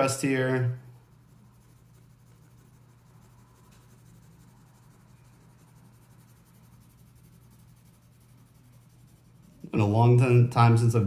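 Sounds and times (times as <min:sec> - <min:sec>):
crayon scratching on paper: 0:00.0 - 0:10.8
low steady hum: 0:00.0 - 0:11.0.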